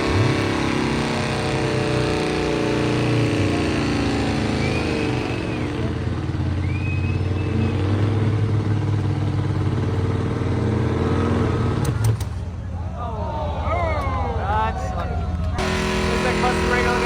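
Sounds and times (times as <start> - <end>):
engine at high revs: 0.0 - 12.3, 15.5 - 17.0.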